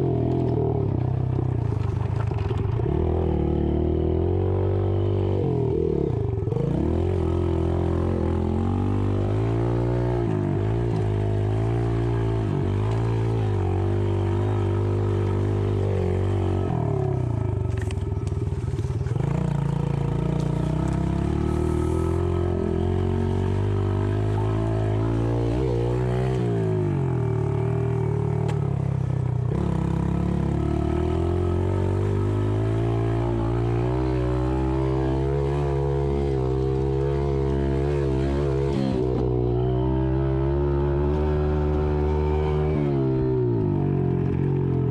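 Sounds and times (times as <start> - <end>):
dirt bike engine revving: 2.9 - 44.9.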